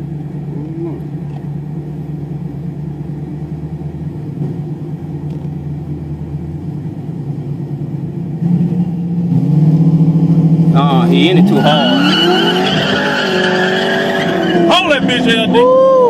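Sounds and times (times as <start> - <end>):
car engines rumbling: 0.0 - 16.0.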